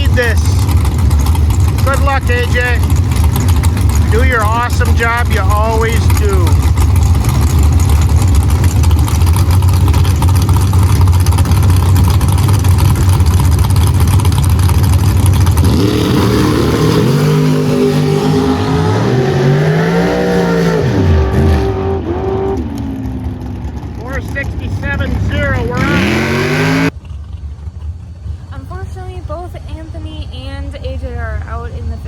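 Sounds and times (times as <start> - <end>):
drag race engines roaring: 0.0 - 32.0.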